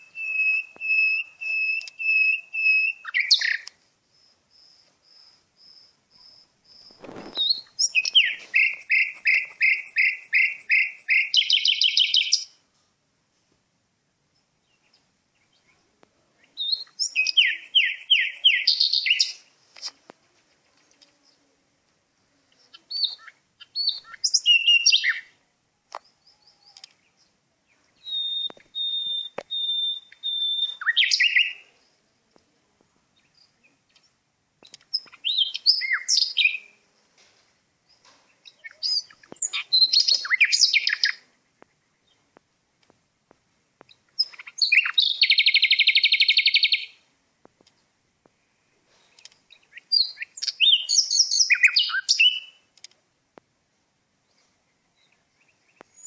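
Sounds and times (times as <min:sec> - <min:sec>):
songbird singing: 0:00.0 - 0:12.8, 0:14.1 - 0:56.0.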